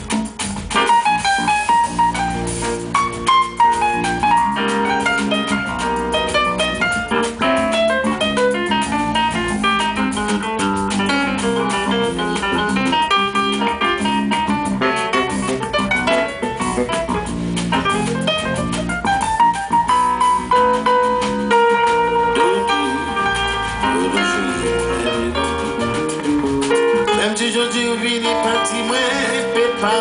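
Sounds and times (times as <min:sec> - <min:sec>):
fast plucked-string melody: 0:00.0 - 0:30.0
piano chords: 0:00.6 - 0:30.0.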